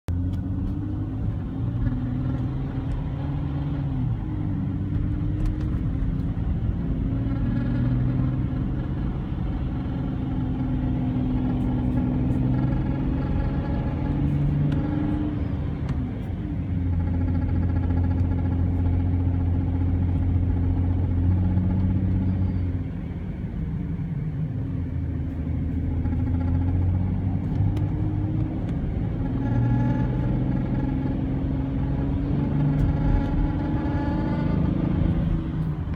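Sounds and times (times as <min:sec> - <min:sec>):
car engine droning while driving: 0:00.1 - 0:35.9.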